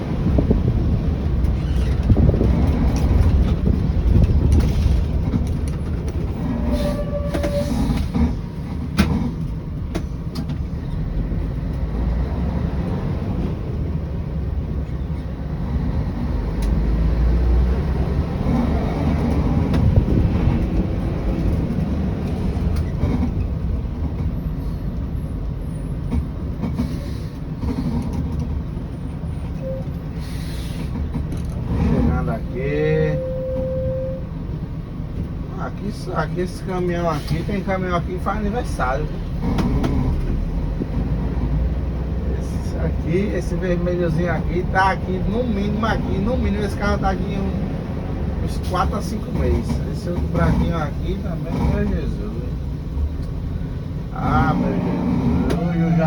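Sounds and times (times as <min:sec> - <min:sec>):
bus body rattling and knocking: 0:00.0 - 0:33.1, 0:34.2 - 0:56.0
bus diesel engine rumbling: 0:00.0 - 0:56.0.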